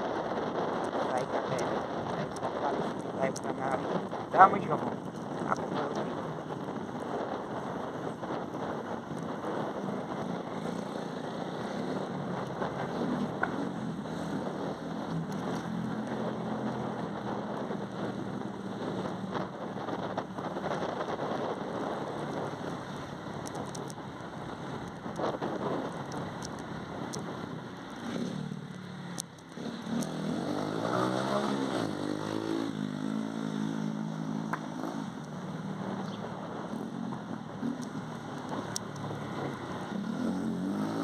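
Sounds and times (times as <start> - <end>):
wind and road noise: 0.0 - 41.0.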